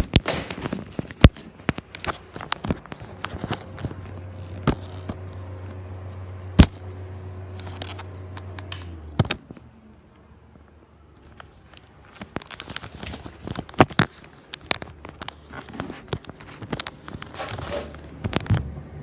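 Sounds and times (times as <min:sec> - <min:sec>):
exhaust fan humming: 0:00.0 - 0:19.0.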